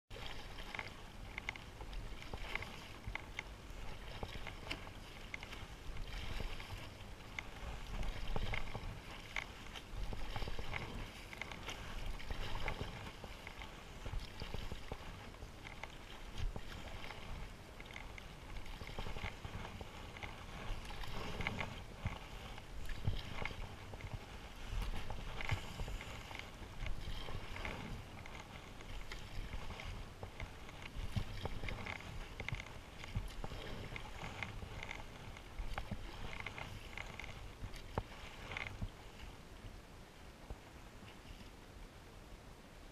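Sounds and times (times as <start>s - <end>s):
paddle splashing through water: 0.1s - 41.6s.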